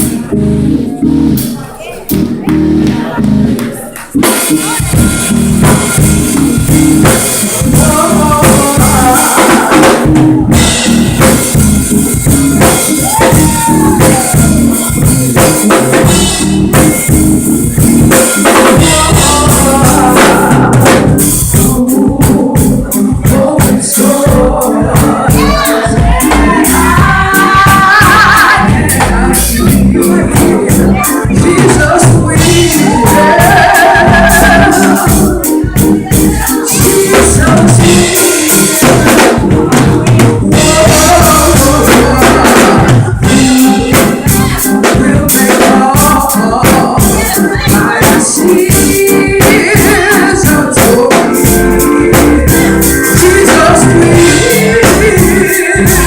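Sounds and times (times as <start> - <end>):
live gospel music with singers: 0.0 - 56.0.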